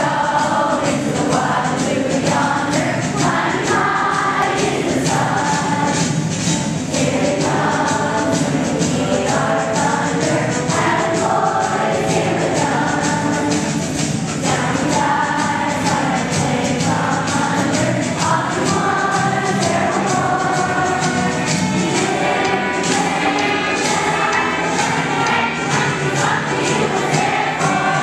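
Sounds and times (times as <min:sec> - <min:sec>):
children singing in unison: 0:00.0 - 0:28.0.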